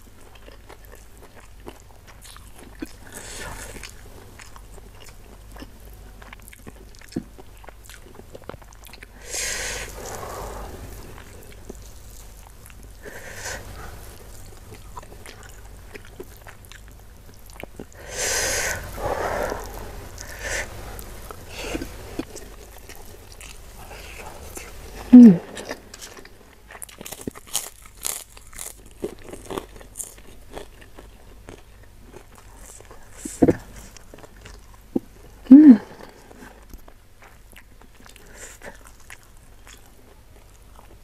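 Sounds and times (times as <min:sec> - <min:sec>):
close chewing and biting food: 0:00.0 - 0:41.0.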